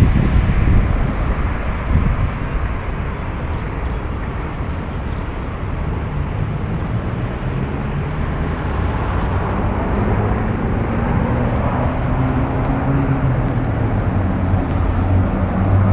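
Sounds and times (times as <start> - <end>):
road noise: 0.0 - 15.9
vehicle engines humming: 0.0 - 15.9.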